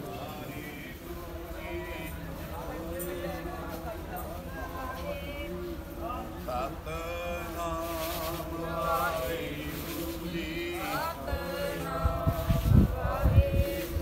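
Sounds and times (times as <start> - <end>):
voices chanting devotional verses: 0.0 - 14.0.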